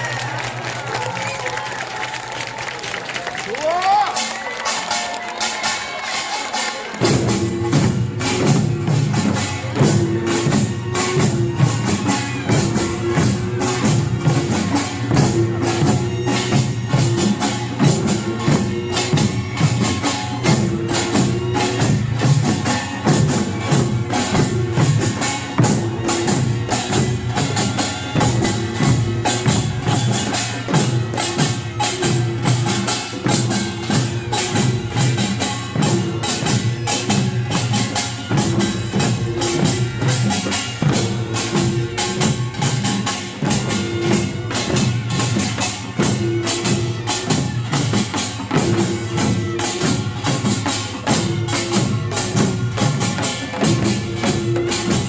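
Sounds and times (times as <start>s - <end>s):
drums: 0.0s - 55.0s.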